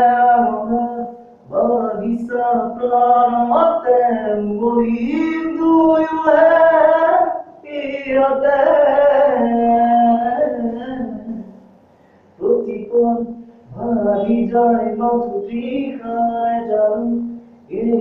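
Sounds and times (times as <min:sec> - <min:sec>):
man singing unaccompanied: 0:00.0 - 0:11.7, 0:12.4 - 0:18.0.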